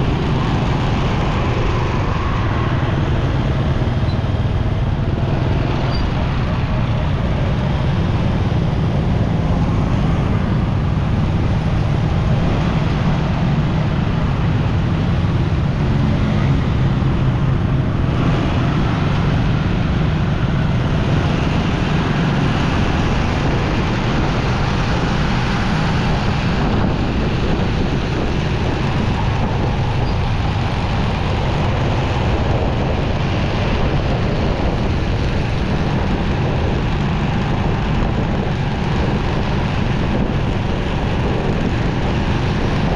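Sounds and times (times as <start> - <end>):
motorcycle engine running: 0.0 - 42.9
road traffic: 0.0 - 42.9
wind rush: 0.0 - 42.9.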